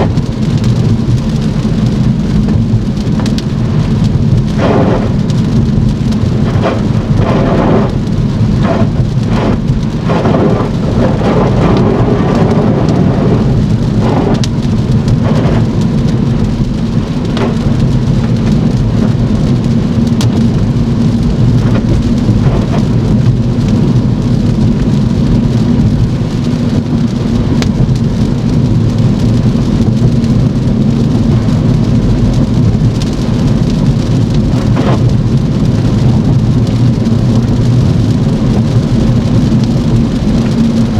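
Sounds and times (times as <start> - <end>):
heavy rain: 0.0 - 40.9
low road rumble: 0.0 - 40.9.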